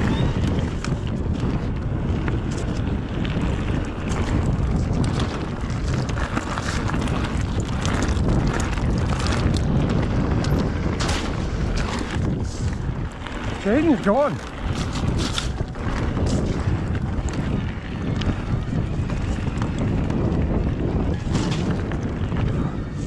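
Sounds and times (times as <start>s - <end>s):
bike rattles and knocks: 0.0s - 23.0s
tyre noise: 0.0s - 23.0s
wind on microphone: 0.0s - 23.0s.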